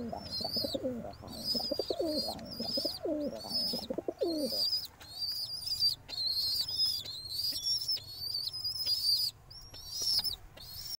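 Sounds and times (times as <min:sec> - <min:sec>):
bird whistled calls: 0:00.3 - 0:10.9.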